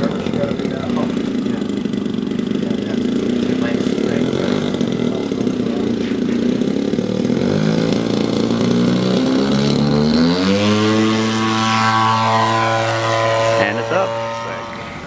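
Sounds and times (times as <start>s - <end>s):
model airplane engine revving: 0.0s - 15.0s.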